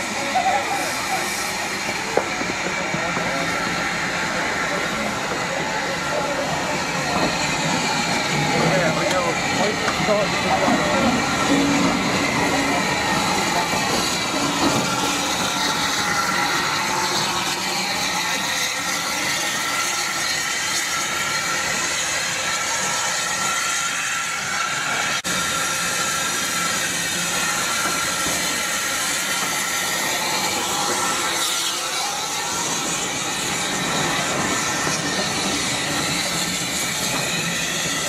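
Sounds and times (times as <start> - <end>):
steam locomotive hissing: 0.0 - 38.0.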